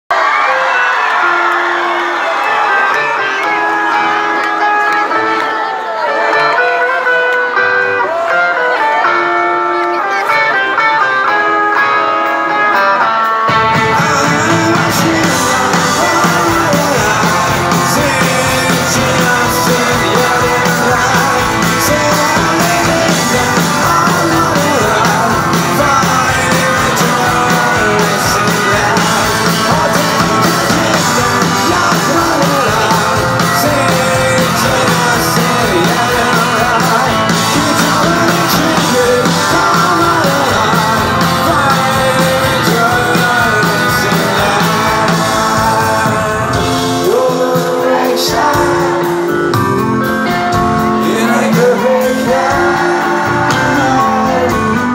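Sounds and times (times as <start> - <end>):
drums: 0.0 - 54.9
electric guitars: 0.1 - 54.9
bass guitar: 0.2 - 54.9
man singing: 9.9 - 54.9.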